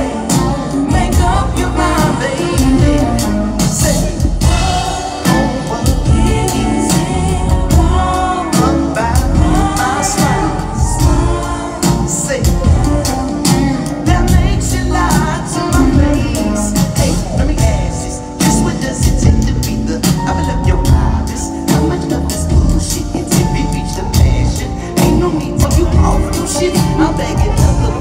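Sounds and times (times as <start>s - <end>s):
live rock band playing: 0.0s - 28.0s
person singing lead vocal: 0.0s - 28.0s.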